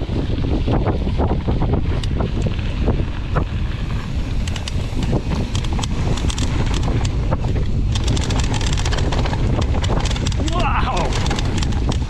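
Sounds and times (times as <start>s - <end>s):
bike rattling and clicking: 0.0s - 12.0s
wind buffeting microphone: 0.0s - 12.0s.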